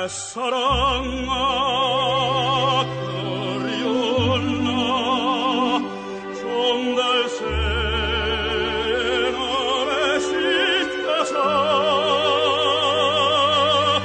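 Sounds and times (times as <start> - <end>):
operatic singing with vibrato: 0.0 - 14.0
orchestral accompaniment: 0.0 - 14.0.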